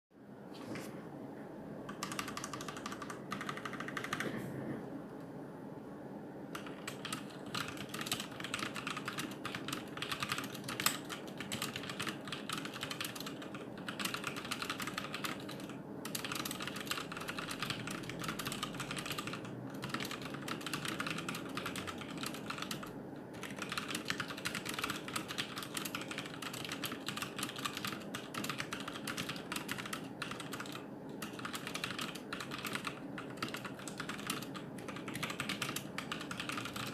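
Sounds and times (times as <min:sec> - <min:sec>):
fast typing on mechanical keyboard: 0:01.9 - 0:04.3, 0:06.5 - 0:36.9.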